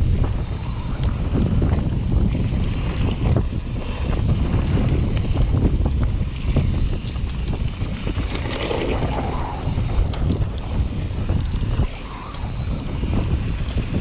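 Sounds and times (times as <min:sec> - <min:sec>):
bike rattling clicks and knocks: 0:00.0 - 0:14.0
bike tyre noise: 0:00.0 - 0:14.0
wind buffeting microphone: 0:00.0 - 0:14.0.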